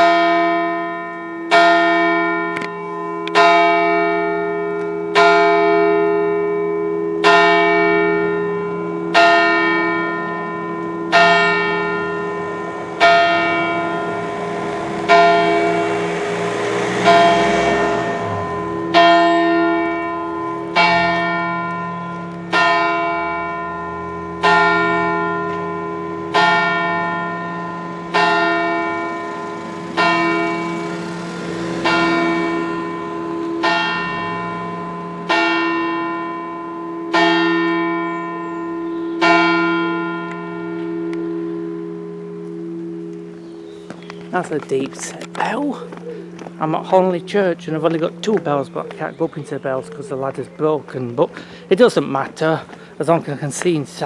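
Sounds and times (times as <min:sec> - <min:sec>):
church bell tolling: 0:00.0 - 0:52.7.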